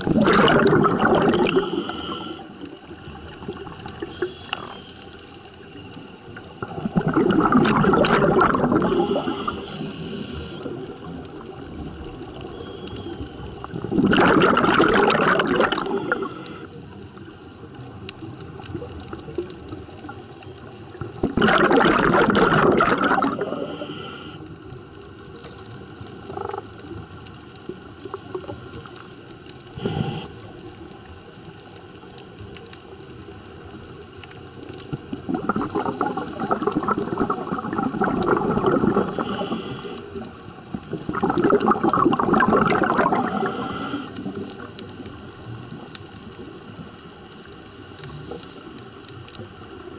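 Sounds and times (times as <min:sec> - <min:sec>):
air bubbles rushing underwater: 0:00.0 - 0:04.7, 0:06.2 - 0:16.7, 0:17.8 - 0:24.1, 0:25.2 - 0:28.7, 0:31.9 - 0:48.5
low underwater hiss: 0:00.0 - 0:49.9.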